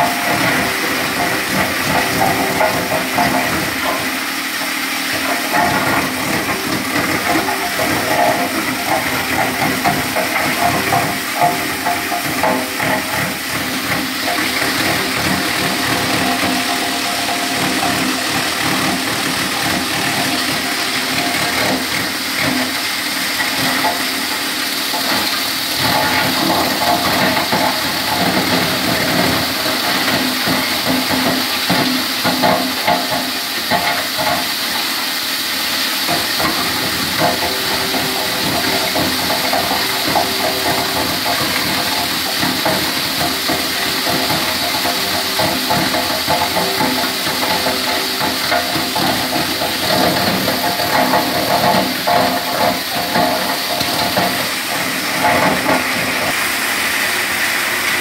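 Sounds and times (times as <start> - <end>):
wood crusher whirring: 0.0 - 58.0.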